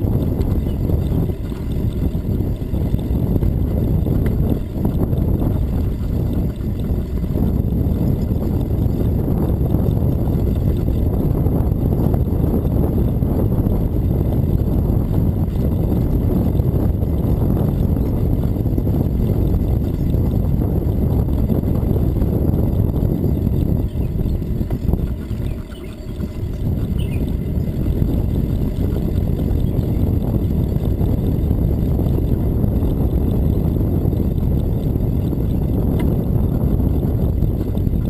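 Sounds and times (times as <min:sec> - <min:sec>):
bicycle tyres rolling on pavement: 0:00.0 - 0:38.0
wind buffeting microphone: 0:00.0 - 0:38.0.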